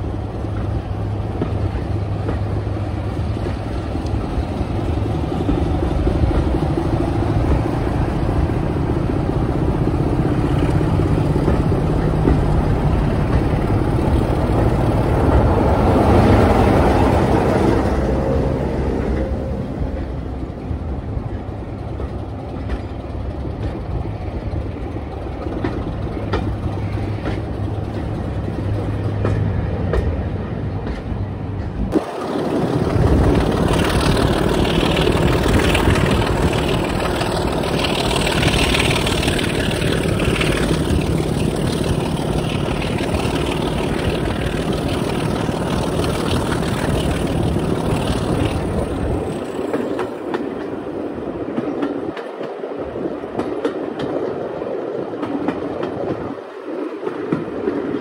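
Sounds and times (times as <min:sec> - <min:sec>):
diesel locomotive engine passing: 0:00.0 - 0:58.0
moving train interior rush: 0:00.0 - 0:58.0
wheels clicking over rail joints: 0:00.1 - 0:18.4, 0:19.0 - 0:52.7.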